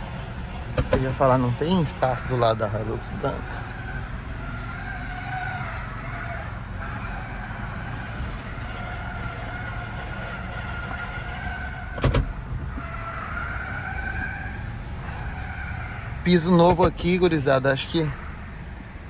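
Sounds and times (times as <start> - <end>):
diesel engine running: 0.0 - 19.0
tyres squealing: 0.0 - 19.0.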